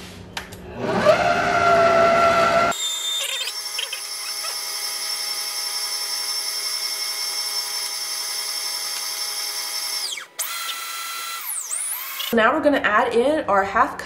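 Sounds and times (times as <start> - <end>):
stand mixer motor whine: 0.8 - 12.3.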